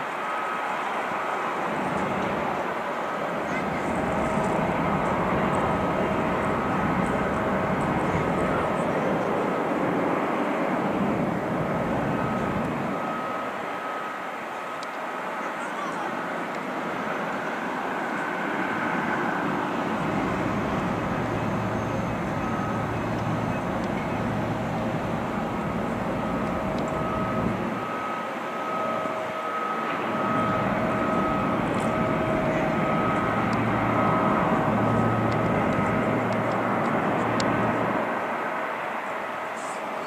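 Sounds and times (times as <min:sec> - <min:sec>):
turboprop aircraft climbing: 0:01.1 - 0:14.0, 0:16.3 - 0:39.7.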